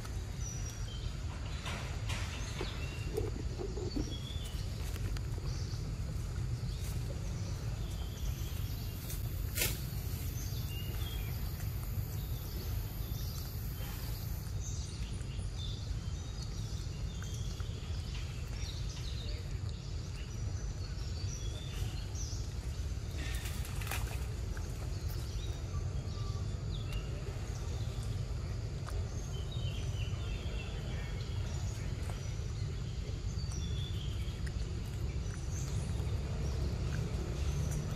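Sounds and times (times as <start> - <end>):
small birds chirping: 0.0 - 37.9
steady low rumble: 0.0 - 37.9.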